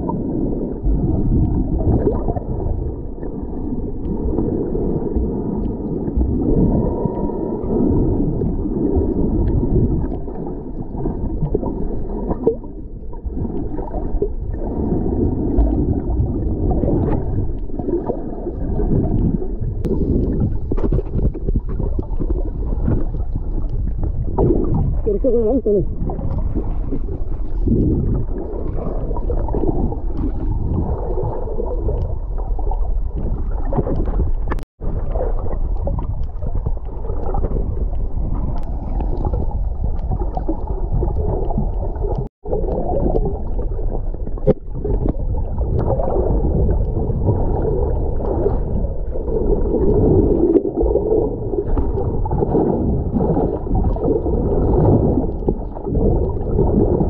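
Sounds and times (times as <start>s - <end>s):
muffled underwater rumble and gurgle: 0.0s - 57.0s.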